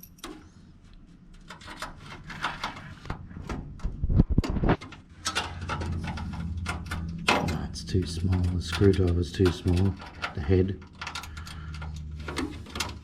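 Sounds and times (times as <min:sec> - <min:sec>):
screwdriver and small parts rattling: 0:00.0 - 0:00.5, 0:01.3 - 0:03.2, 0:03.9 - 0:13.0
low steady hum: 0:00.0 - 0:13.0.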